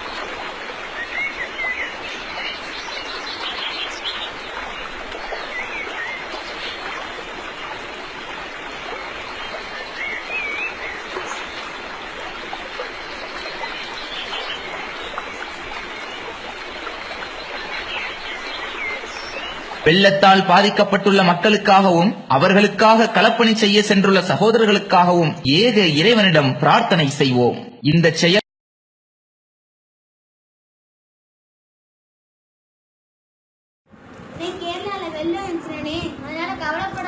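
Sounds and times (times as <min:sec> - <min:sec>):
water flowing: 0:00.0 - 0:27.5, 0:34.1 - 0:37.0.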